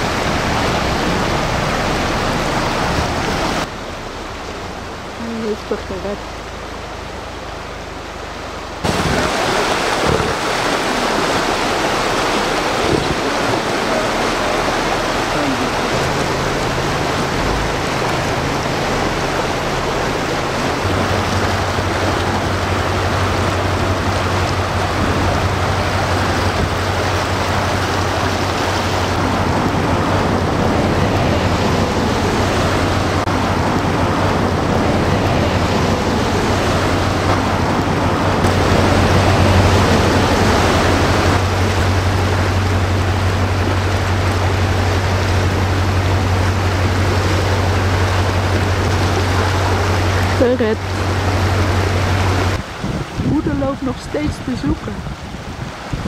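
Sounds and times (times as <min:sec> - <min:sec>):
low steady hum: 0:00.0 - 0:55.2
fast-flowing river rushing: 0:00.0 - 0:56.0.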